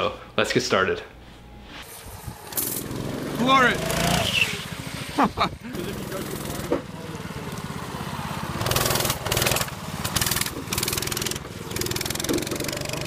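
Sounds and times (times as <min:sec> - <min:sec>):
go-kart engine running: 0:01.9 - 0:13.0.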